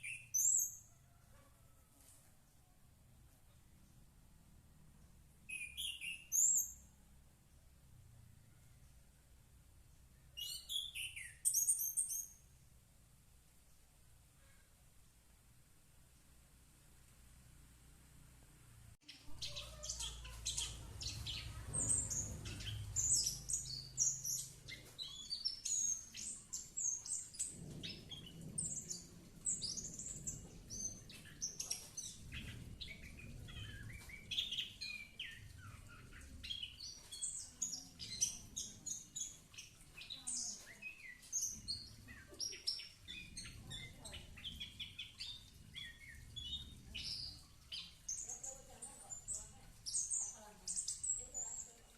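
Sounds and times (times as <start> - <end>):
songbird chirping and trilling: 0.0 - 4.1, 4.8 - 12.6, 19.0 - 51.9.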